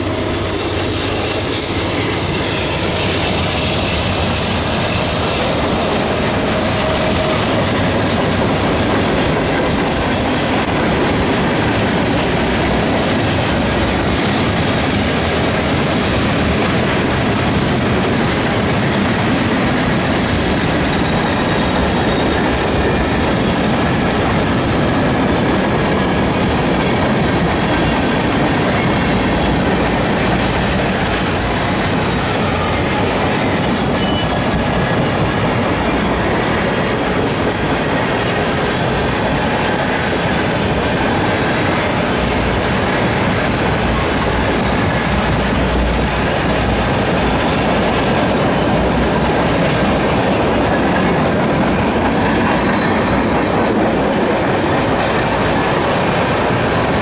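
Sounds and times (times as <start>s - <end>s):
freight train rumble: 0.0s - 57.0s
wheels clacking on rails: 0.0s - 57.0s.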